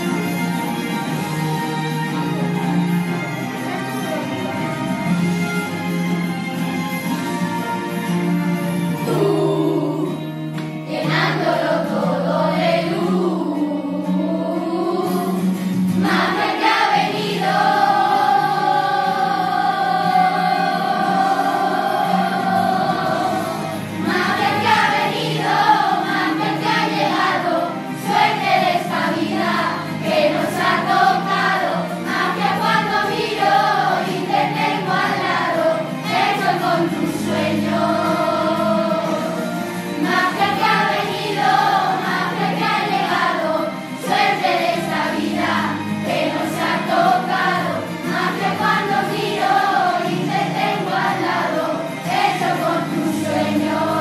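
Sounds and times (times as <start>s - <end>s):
instrumental backing music: 0.0s - 54.0s
choir singing: 8.8s - 54.0s.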